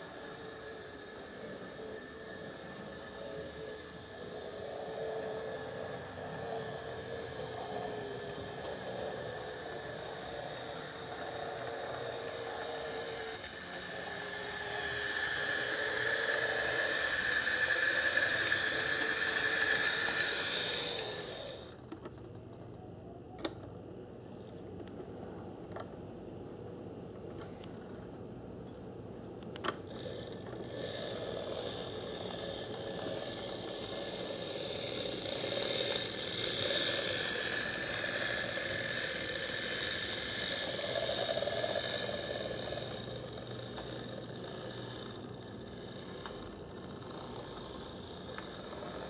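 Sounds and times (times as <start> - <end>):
model train motor whine: 0.0 - 22.1, 29.6 - 49.0.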